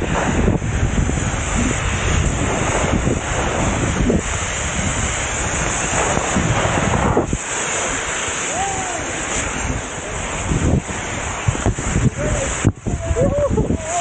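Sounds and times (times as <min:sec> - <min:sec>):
skis hissing over snow: 0:00.0 - 0:14.0
wind buffeting microphone: 0:00.0 - 0:14.0.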